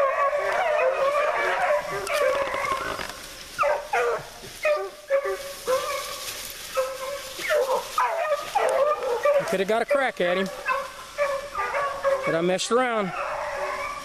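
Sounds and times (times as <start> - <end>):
dogs yelping: 0.0 - 14.0
hounds baying: 0.0 - 14.0.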